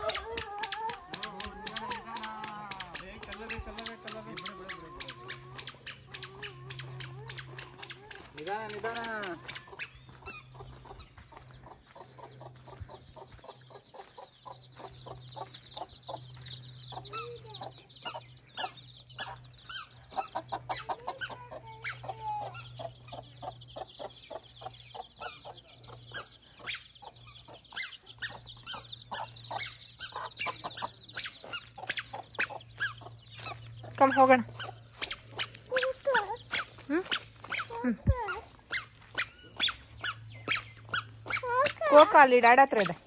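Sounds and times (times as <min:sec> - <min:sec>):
chickens clucking: 0:00.0 - 0:43.0
continuous high chirping: 0:00.0 - 0:43.0.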